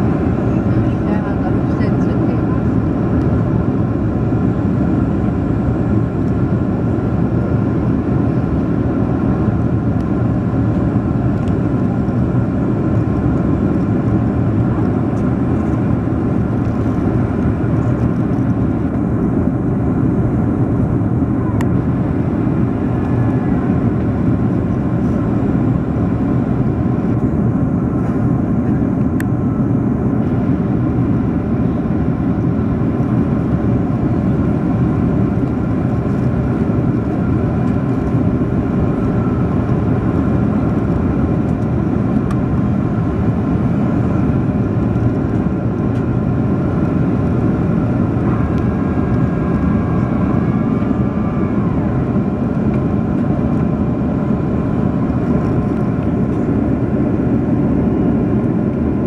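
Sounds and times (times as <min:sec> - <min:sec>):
airplane cabin roar: 0:00.0 - 0:59.0
faint engine tones: 0:00.0 - 0:59.0.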